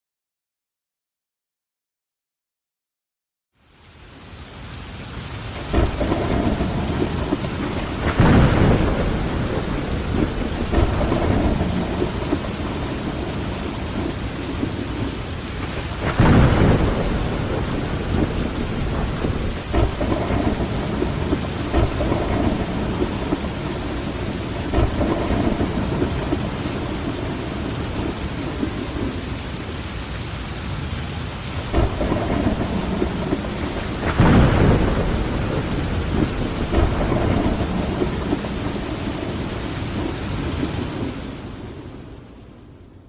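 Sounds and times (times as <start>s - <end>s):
steady rain: 3.5s - 43.0s
thunder rumbling: 5.1s - 42.9s.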